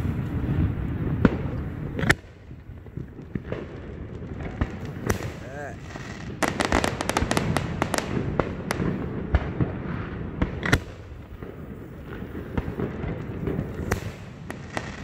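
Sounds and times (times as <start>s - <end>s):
fireworks bangs and pops: 0.0s - 15.0s.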